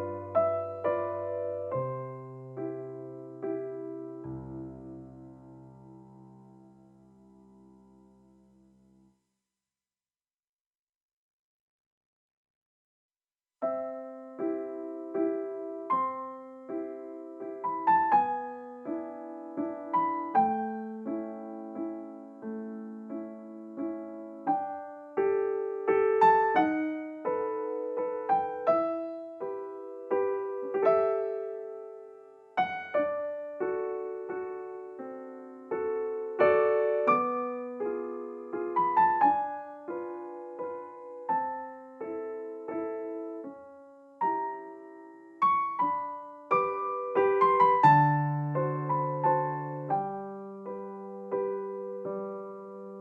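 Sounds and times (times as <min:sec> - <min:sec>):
slow piano music: 0:00.0 - 0:09.2, 0:13.6 - 0:53.0.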